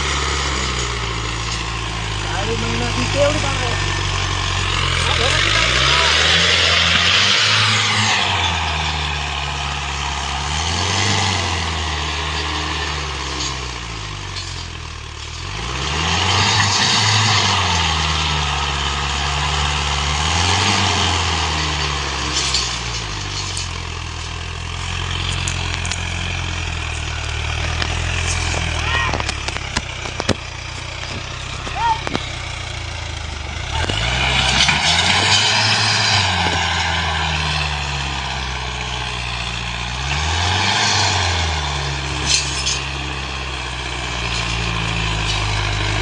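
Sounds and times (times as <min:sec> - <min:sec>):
tractor diesel engine revving: 0:00.0 - 0:46.0.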